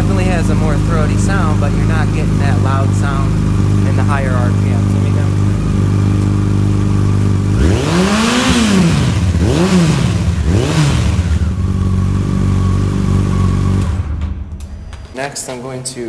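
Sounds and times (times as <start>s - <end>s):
motorcycle engine idling and revving: 0.0s - 15.6s.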